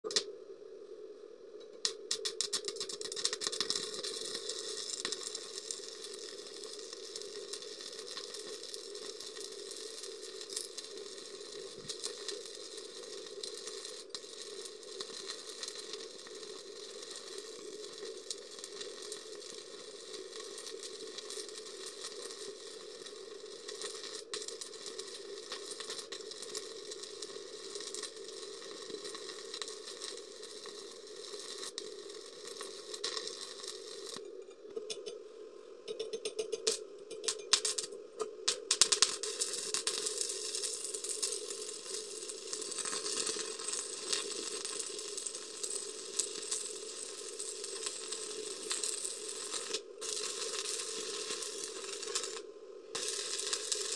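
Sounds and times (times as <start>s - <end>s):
welding arc crackling and sizzling: 0.0s - 0.3s, 1.6s - 35.2s, 35.9s - 53.9s.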